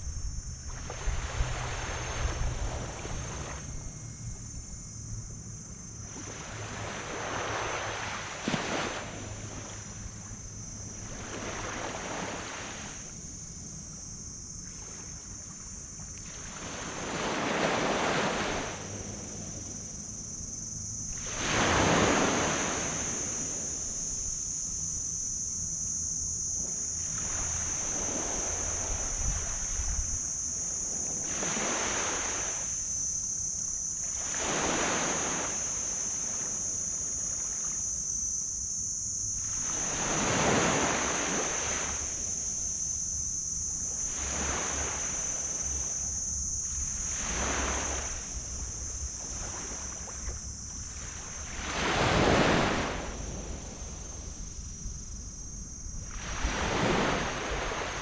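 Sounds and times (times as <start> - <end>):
wind rumble on microphone: 0.0 - 32.9, 43.6 - 58.0
steady high-pitched hiss: 0.0 - 58.0
waves breaking on a beach: 0.7 - 4.1, 6.1 - 20.4, 21.1 - 24.7, 26.5 - 38.4, 39.2 - 54.5, 55.4 - 58.0.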